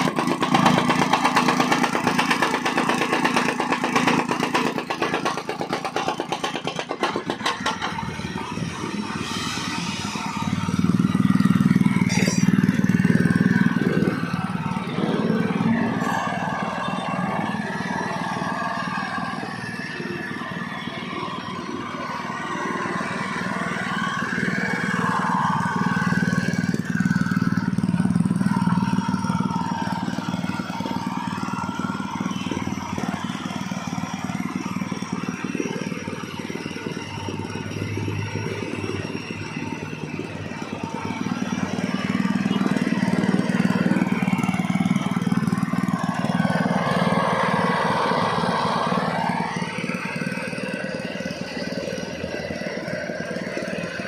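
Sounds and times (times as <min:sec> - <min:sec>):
compactor engine running: 0:00.0 - 0:54.0.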